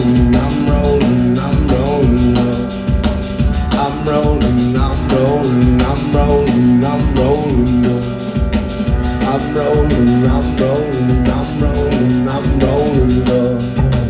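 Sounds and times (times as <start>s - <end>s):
drums: 0.0s - 14.0s
guitar: 0.0s - 14.0s
steady bass line: 0.0s - 14.0s.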